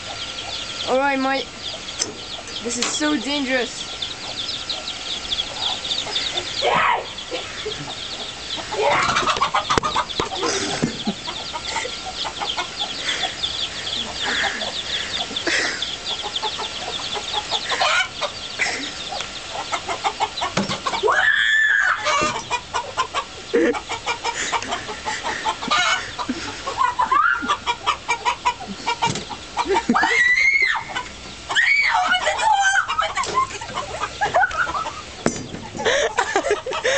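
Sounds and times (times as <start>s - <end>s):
chicken calls rising and falling: 0.0s - 36.9s
chickens clucking: 0.0s - 36.9s.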